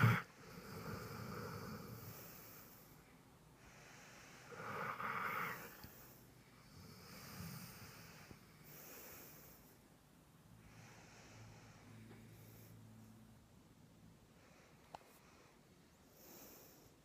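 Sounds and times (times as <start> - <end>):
slow rhythmic snoring: 0.0 - 9.8, 10.6 - 13.0, 14.4 - 17.0.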